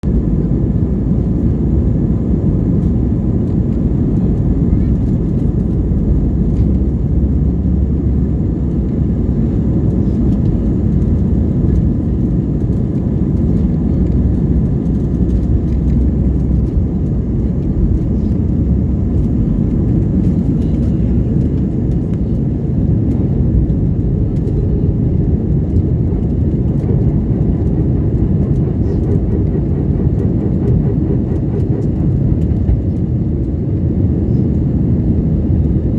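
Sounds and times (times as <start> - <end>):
jet engines rumbling in cabin: 0.0 - 35.9.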